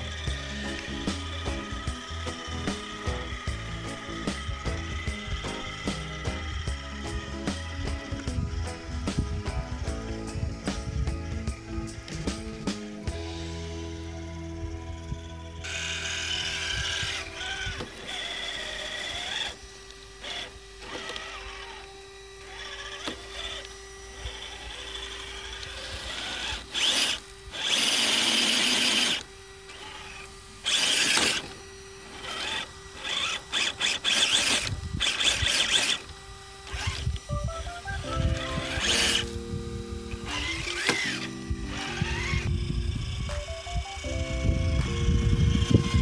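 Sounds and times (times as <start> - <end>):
electric motor whining in bursts: 0.0 - 46.0.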